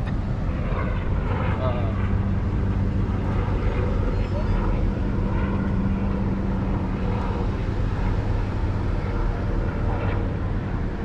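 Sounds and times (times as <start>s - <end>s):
engine droning hum: 0.0s - 11.0s
outdoor background noise: 0.0s - 11.0s.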